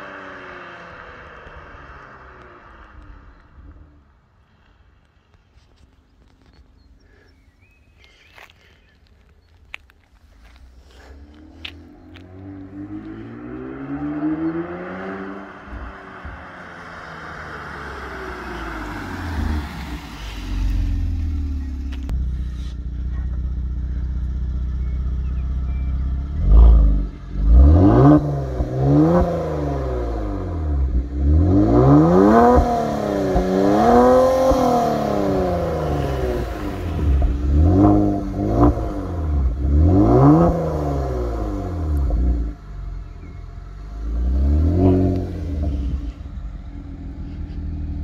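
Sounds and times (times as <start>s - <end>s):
car engine revving: 0.0s - 4.2s, 10.4s - 48.0s
car engine idling: 0.0s - 48.0s.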